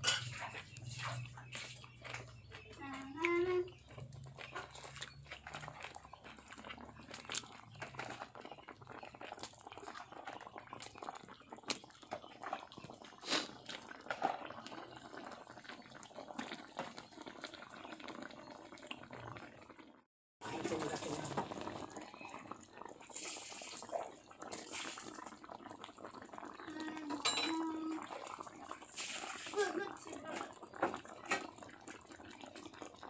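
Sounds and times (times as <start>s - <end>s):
curry bubbling and spitting in wok: 0.0s - 33.0s.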